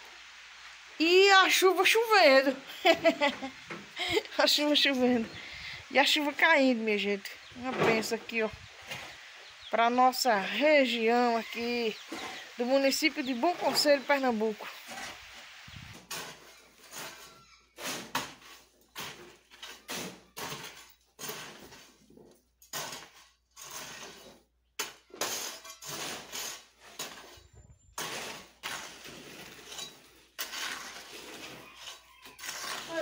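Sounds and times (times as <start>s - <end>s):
metal shovels scraping earth: 0.6s - 33.0s.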